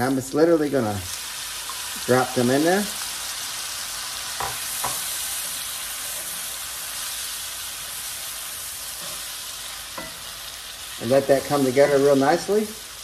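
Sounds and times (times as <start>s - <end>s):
shrimp sizzling in a skillet: 0.0s - 13.0s.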